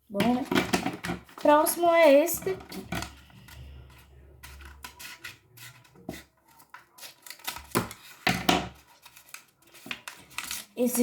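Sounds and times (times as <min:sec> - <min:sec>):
plastic packet rustling: 0:01.0 - 0:11.0.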